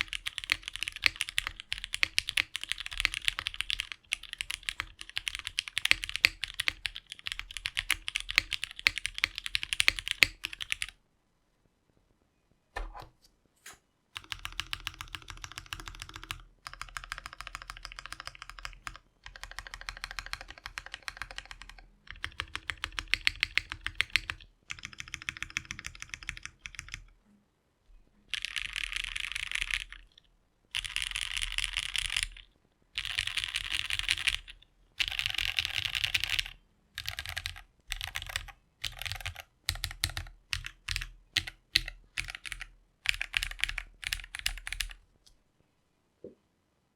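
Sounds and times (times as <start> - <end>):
mechanical keyboard typing: 0.0 - 11.0, 14.2 - 27.2, 28.3 - 45.0.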